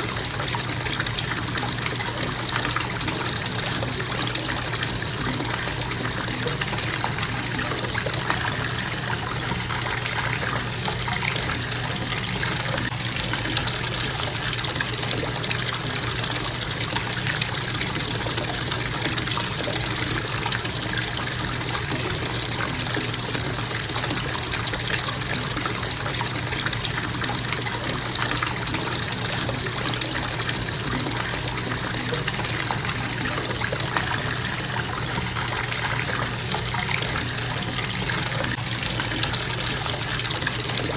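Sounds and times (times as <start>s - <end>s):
faucet water splashing into tub: 0.0s - 40.9s.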